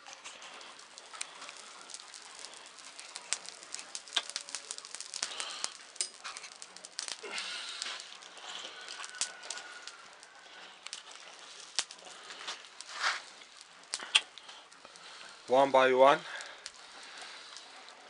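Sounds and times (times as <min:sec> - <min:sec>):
embers crackling and popping: 0:00.0 - 0:18.0.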